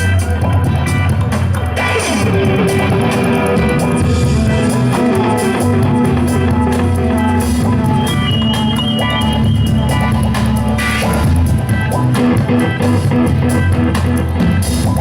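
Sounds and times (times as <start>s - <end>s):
bass guitar: 0.0s - 15.0s
drums: 0.0s - 15.0s
electric guitar: 0.0s - 15.0s.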